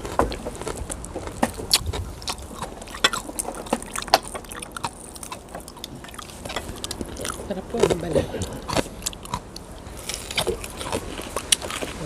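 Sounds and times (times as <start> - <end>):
crunching and chewing: 0.0 - 12.0.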